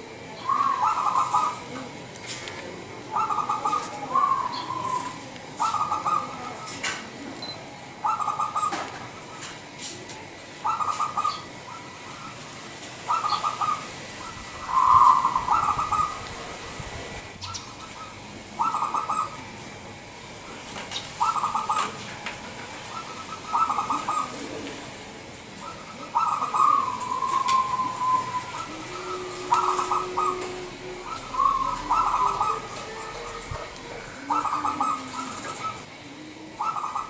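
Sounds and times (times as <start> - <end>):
dove cooing: 0.0 - 37.0.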